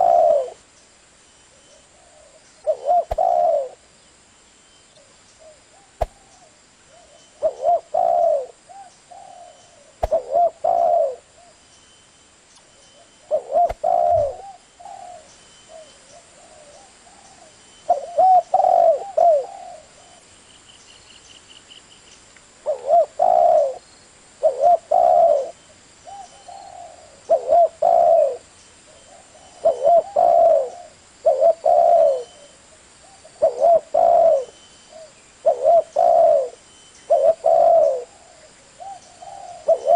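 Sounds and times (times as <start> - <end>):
dove cooing: 0.0 - 0.6, 1.8 - 3.8, 5.4 - 11.6, 13.0 - 20.2, 22.6 - 23.8, 24.4 - 39.9
faint high bird chirps: 0.0 - 23.9, 24.5 - 39.9.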